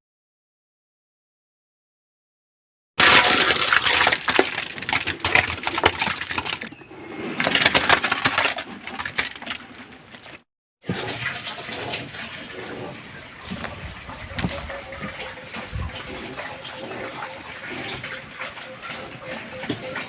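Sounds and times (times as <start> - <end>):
building materials clattering: 3.0 - 20.0.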